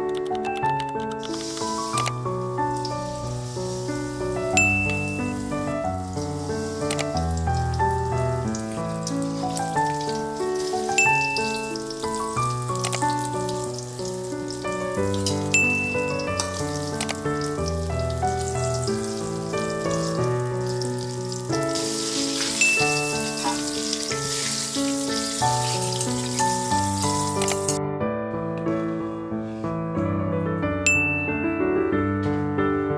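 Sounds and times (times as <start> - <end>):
background music: 0.0 - 32.6
food sizzling in hot oil: 1.3 - 27.8.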